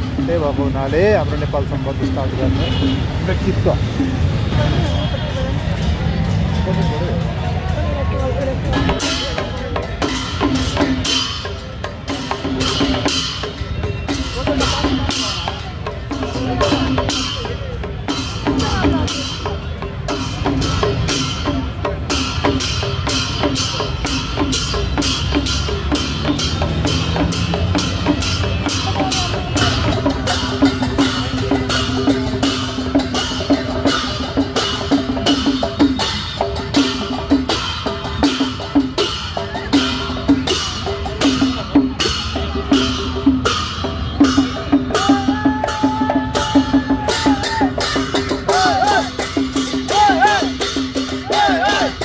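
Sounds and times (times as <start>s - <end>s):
fast drum beat: 0.0s - 52.0s.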